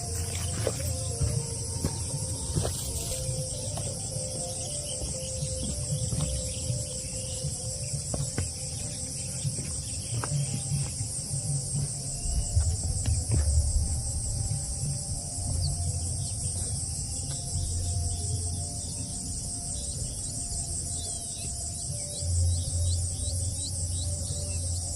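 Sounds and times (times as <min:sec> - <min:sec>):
insects chirring: 0:00.0 - 0:24.9.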